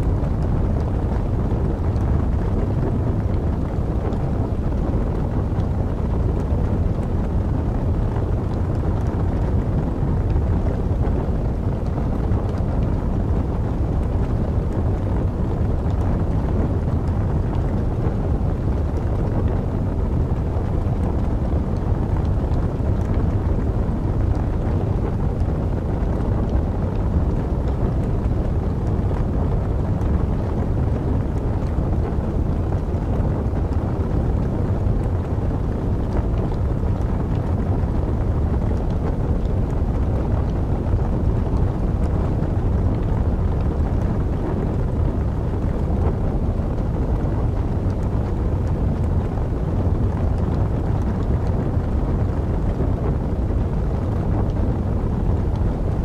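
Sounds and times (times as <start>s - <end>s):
burning logs crackling: 0.0s - 55.9s
low rumble of wind: 0.0s - 56.0s.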